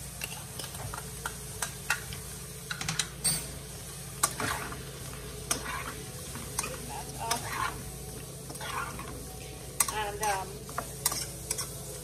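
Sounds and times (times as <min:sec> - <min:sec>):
light frying sizzle: 0:00.0 - 0:12.0.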